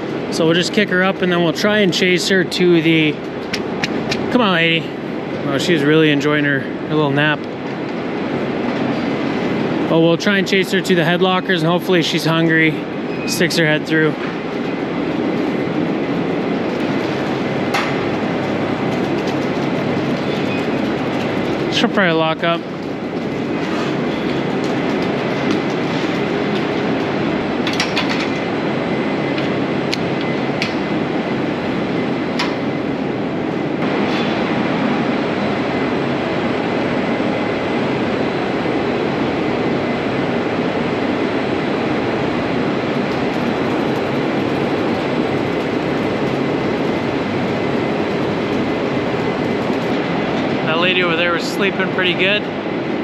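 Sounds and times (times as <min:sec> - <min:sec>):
ventilation fans humming: 0:00.0 - 0:53.0.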